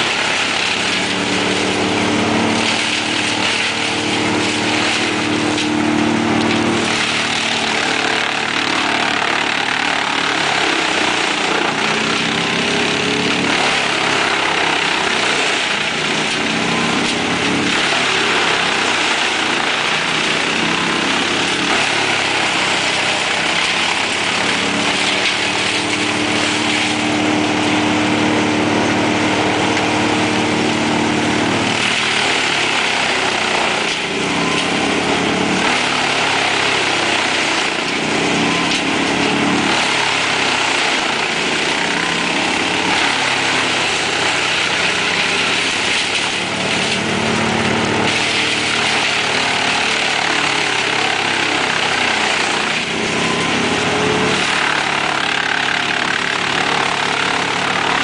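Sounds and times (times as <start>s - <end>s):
engines droning: 0.0s - 50.0s
wood chipper chipping branches: 0.0s - 58.0s.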